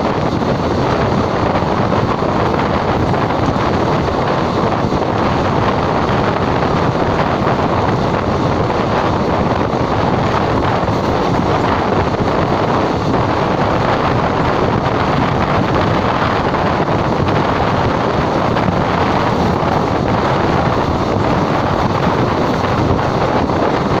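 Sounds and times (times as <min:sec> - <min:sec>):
train running noise: 0:00.0 - 0:24.0
wind buffeting microphone: 0:00.0 - 0:24.0.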